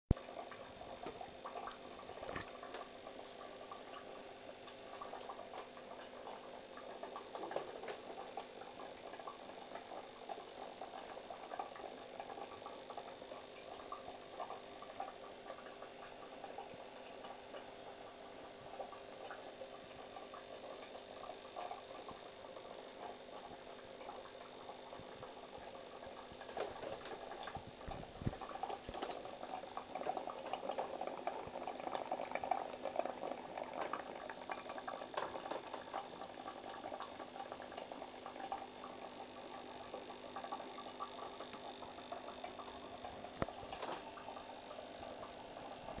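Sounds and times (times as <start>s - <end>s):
aquarium water bubbling: 0.1s - 46.0s.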